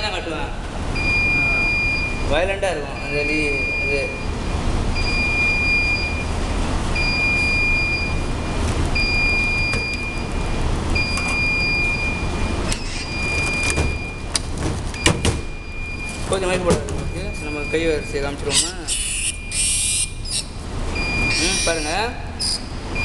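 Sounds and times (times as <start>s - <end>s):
low steady rumble: 0.0s - 18.5s
electronic alarm beeping: 1.0s - 4.4s, 5.0s - 14.3s, 15.0s - 23.0s.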